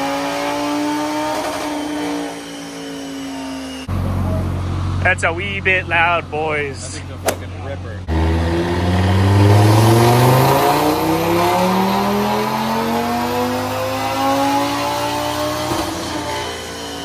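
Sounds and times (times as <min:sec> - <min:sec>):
car engine revving at full throttle: 0:00.0 - 0:17.0.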